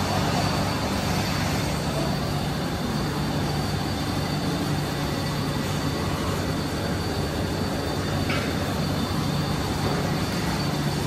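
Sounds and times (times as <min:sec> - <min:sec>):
faint high whine: 0:00.0 - 0:11.0
milking machinery hum and rumble: 0:00.0 - 0:11.0.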